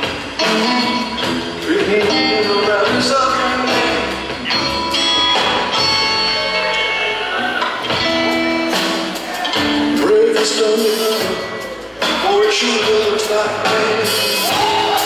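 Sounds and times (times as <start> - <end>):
drums: 0.0 - 15.0
electric guitar: 0.0 - 15.0
upright bass: 0.0 - 15.0.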